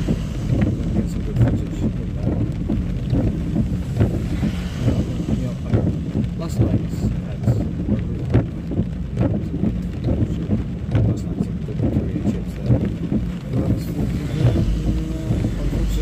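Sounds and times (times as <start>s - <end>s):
engine and tyres rumbling: 0.0s - 16.0s
tyres hissing on wet road: 0.0s - 16.0s.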